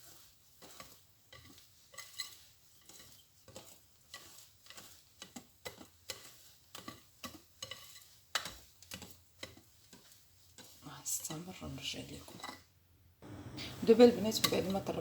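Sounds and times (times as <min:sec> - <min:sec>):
utensil knocking and scraping bowl: 0:00.0 - 0:10.8, 0:12.2 - 0:15.0.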